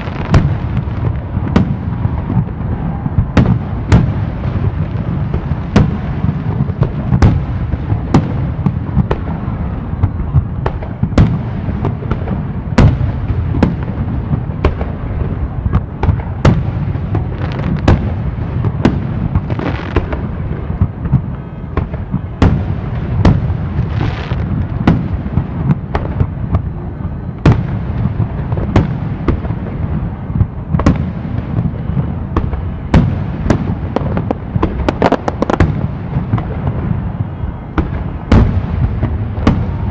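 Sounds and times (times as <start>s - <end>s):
crackling hiss: 0.0s - 39.9s.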